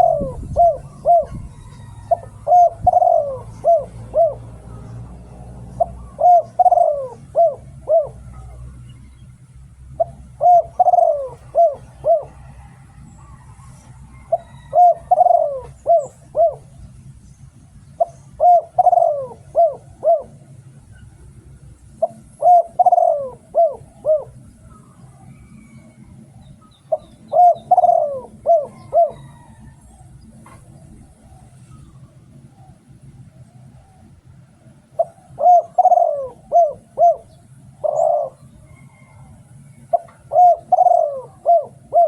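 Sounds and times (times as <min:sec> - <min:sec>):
dove cooing: 0:00.0 - 0:17.0, 0:17.9 - 0:42.0.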